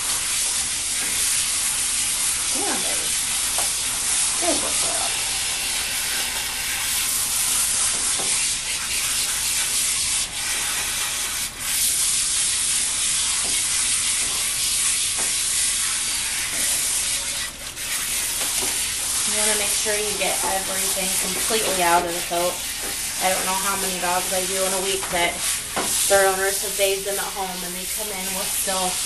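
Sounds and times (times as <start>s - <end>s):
hose spraying water hiss: 0.0s - 29.0s.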